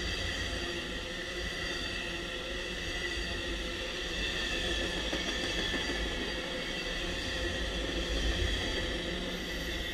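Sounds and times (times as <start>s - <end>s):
train wheels rumbling on track: 0.0s - 9.9s.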